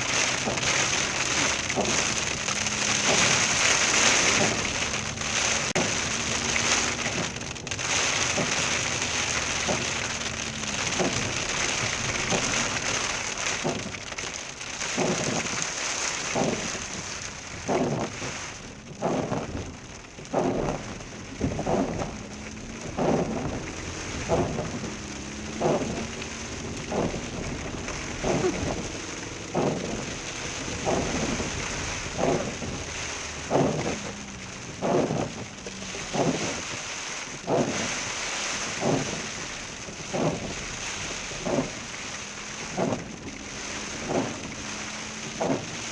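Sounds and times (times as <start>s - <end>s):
hail and rain drumming on car: 0.0s - 45.9s.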